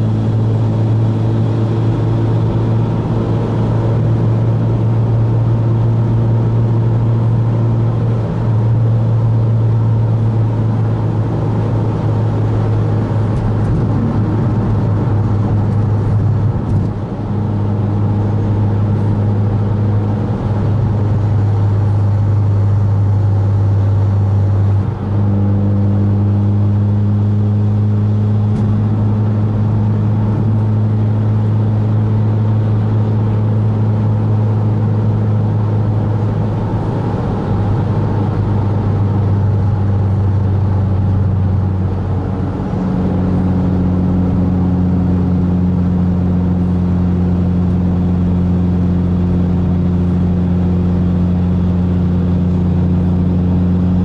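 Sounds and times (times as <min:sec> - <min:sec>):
car engine droning while cruising: 0:00.0 - 0:54.0.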